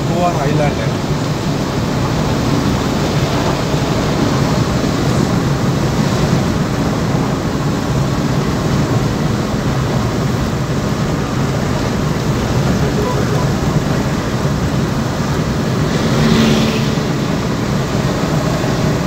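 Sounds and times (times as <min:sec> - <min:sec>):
wind noise: 0:00.8 - 0:19.0.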